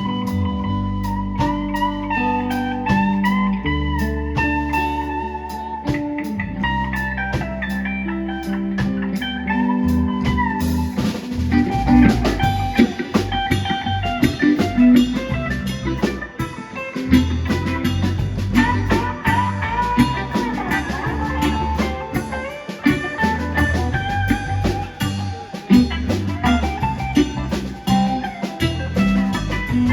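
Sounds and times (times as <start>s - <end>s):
bass guitar: 0.0s - 29.9s
drum kit: 0.0s - 29.9s
lead guitar bending notes: 0.0s - 29.9s.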